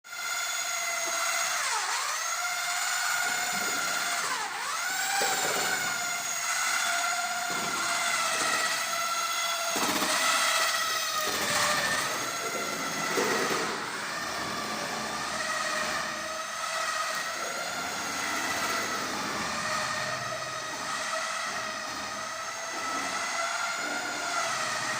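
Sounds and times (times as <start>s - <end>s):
power drill motor whining: 0.1s - 24.9s.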